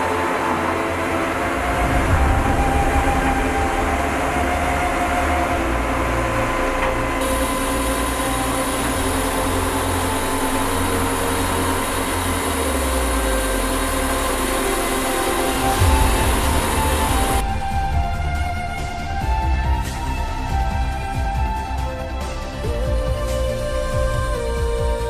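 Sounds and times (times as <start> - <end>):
crane engine and hydraulic hum: 0.0 - 25.0.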